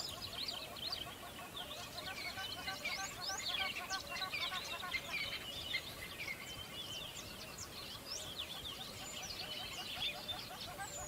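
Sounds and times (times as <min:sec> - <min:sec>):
many birds chirping: 0:00.0 - 0:11.0.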